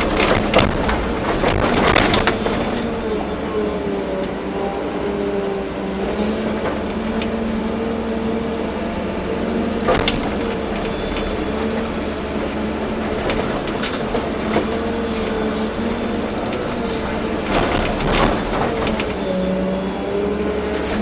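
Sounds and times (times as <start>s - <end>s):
excavator engine droning: 0.0s - 21.0s.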